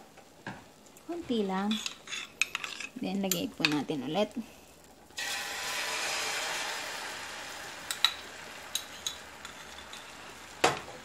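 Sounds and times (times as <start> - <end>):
egg sizzling in a pan: 0.0 - 11.0.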